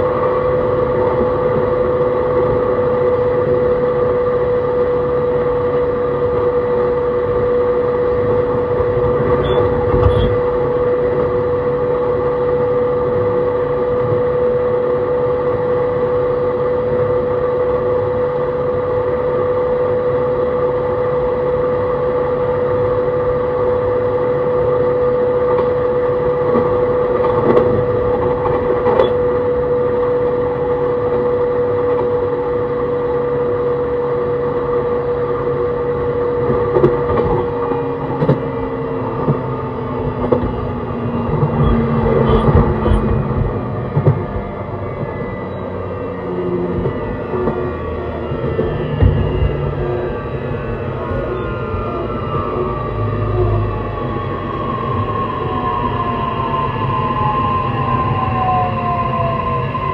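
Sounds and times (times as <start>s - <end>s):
electric train motor tone: 0.0s - 59.9s
wheel-on-rail rumble: 0.0s - 59.9s.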